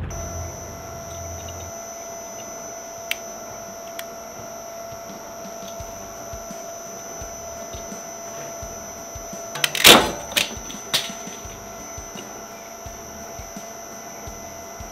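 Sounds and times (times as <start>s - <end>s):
shredder motor whine: 0.0s - 14.9s.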